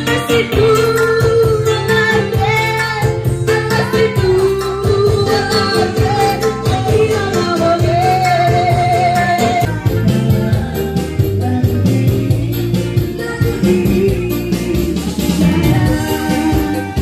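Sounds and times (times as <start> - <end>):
electronic keyboard with beat: 0.0 - 17.0
woman singing into microphone: 0.0 - 17.0.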